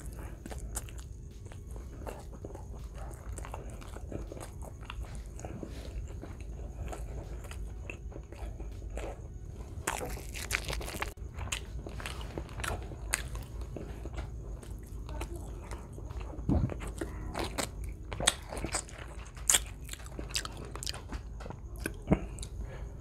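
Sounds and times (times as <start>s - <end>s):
person chewing: 0.0s - 22.9s.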